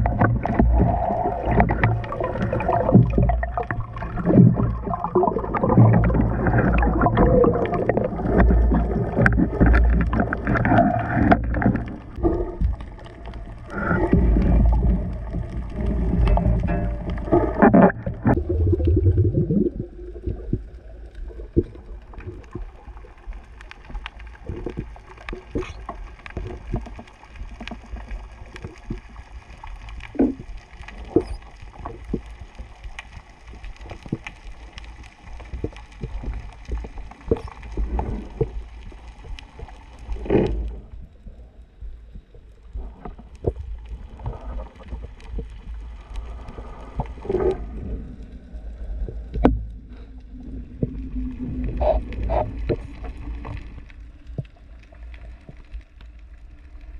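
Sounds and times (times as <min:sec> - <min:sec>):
underwater clicks and crackles: 0:00.0 - 0:56.9
underwater rumble: 0:00.0 - 0:56.9.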